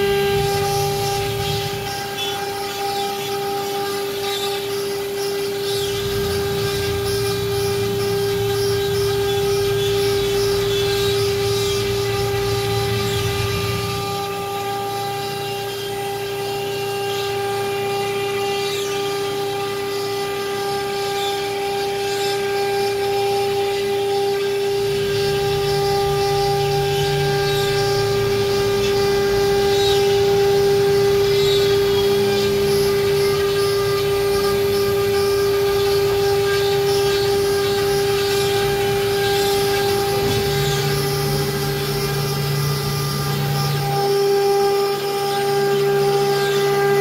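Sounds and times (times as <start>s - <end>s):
router spindle high whine: 0.0s - 47.0s.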